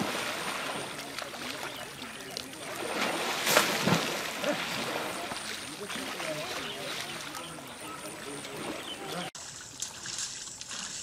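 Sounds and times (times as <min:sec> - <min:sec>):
elephant splashing in water: 0:00.0 - 0:11.0.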